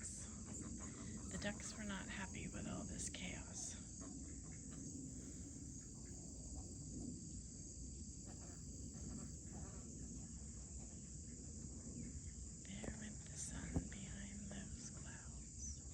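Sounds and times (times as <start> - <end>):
insects trilling: 0.0 - 15.9.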